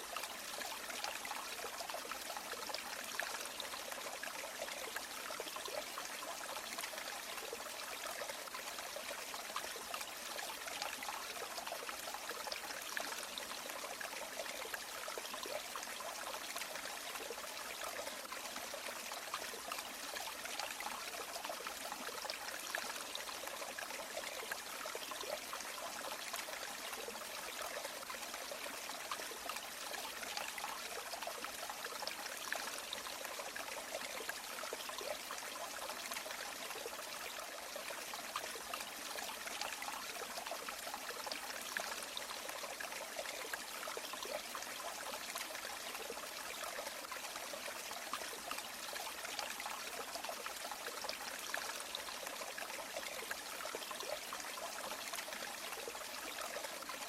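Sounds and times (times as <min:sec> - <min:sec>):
river water trickling: 0:00.0 - 0:57.0.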